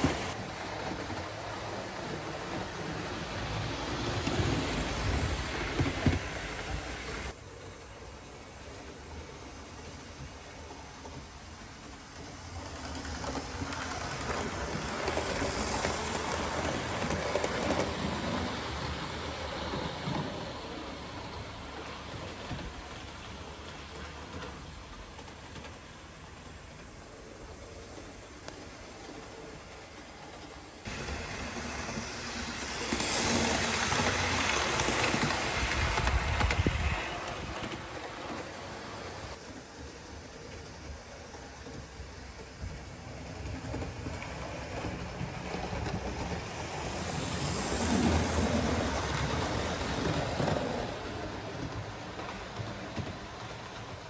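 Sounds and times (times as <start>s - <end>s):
model train running on rails: 0.0s - 54.0s.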